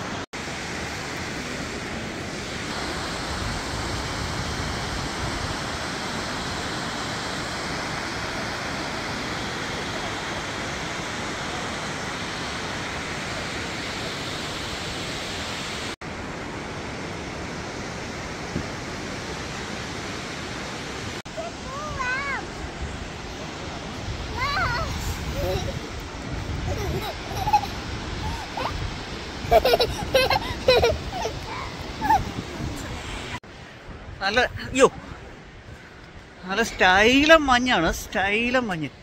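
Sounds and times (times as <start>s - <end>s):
waterfall rushing: 0.0s - 33.7s.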